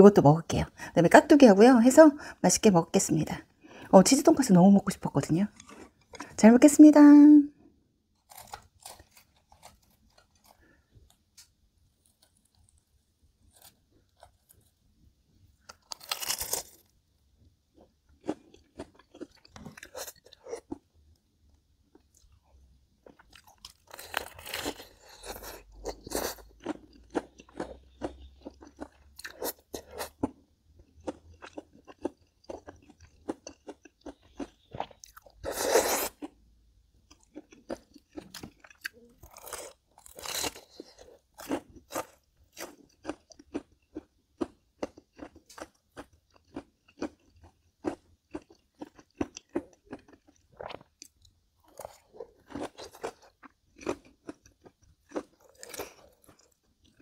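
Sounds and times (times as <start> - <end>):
person chewing crunchy food: 5.3 - 6.4, 8.1 - 14.8, 15.6 - 17.0, 17.7 - 21.0, 21.8 - 57.0.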